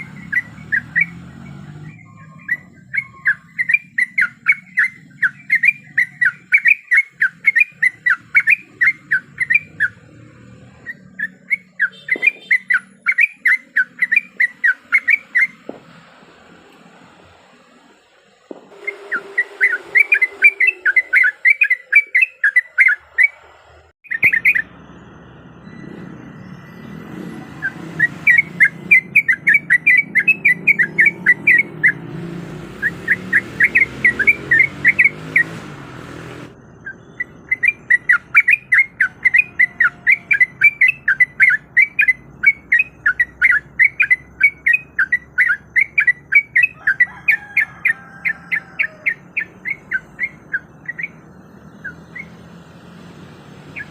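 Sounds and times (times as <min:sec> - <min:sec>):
bird singing bubbling chirps: 0:00.0 - 0:15.6, 0:18.7 - 0:23.4, 0:24.0 - 0:35.6, 0:36.6 - 0:47.4, 0:48.2 - 0:52.6.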